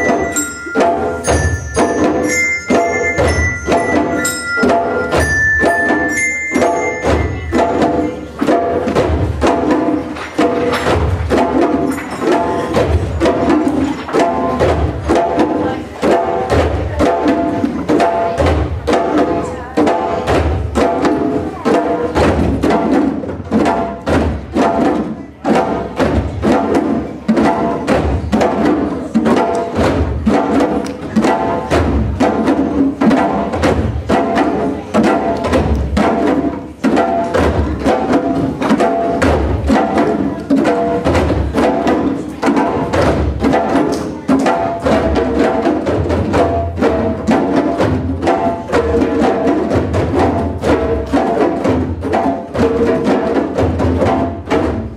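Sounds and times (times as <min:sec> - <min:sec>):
djembe drums played by hand: 0:00.0 - 0:54.9.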